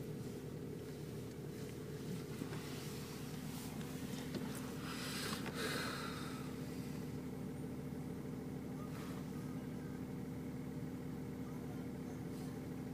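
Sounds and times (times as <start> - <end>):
car engine hum from inside cabin: 0.0 - 12.9.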